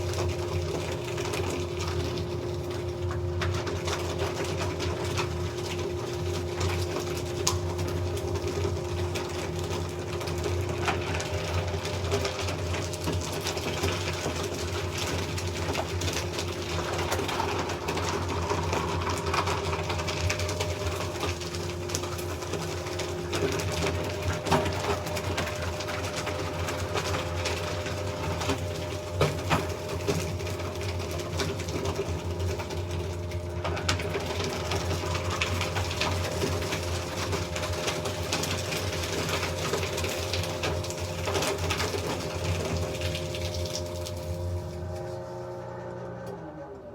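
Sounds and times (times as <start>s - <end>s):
paper crackling through shredder: 0.0s - 46.9s
paper shredder motor humming: 0.0s - 46.9s.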